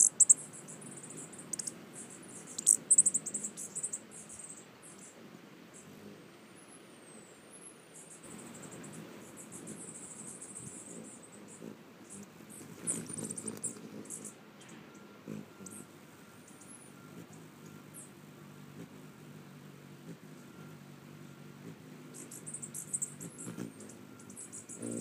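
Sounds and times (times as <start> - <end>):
hummingbird wings whirring: 0.0 - 6.4, 7.4 - 25.0.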